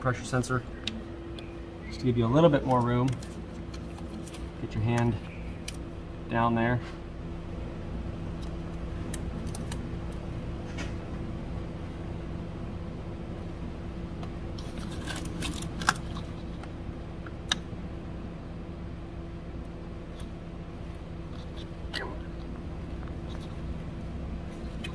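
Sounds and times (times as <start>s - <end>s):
low hum: 0.0s - 24.9s.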